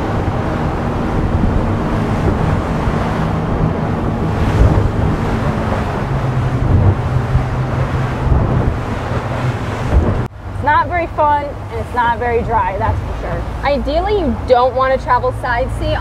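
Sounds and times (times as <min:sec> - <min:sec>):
water slapping against hull: 0:00.0 - 0:15.0
boat engine running: 0:00.0 - 0:16.0
wind buffeting microphone: 0:00.0 - 0:16.0.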